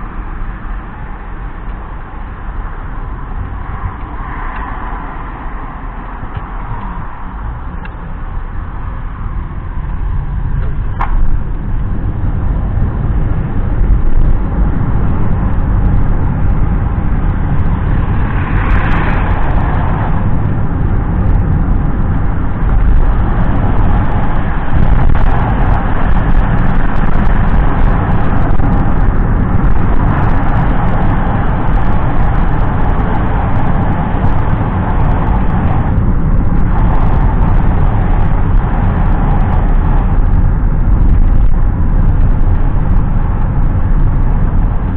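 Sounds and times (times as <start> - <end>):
car engine and tyre noise: 0.0 - 44.9.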